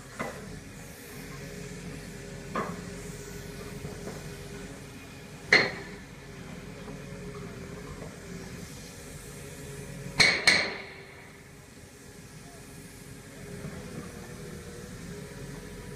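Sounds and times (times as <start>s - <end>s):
excavator diesel engine running: 0.0s - 15.9s.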